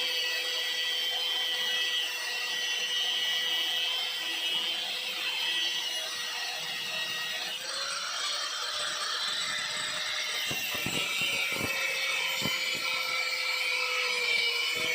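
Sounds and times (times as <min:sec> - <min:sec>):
angle grinder on metal: 0:00.0 - 0:14.9.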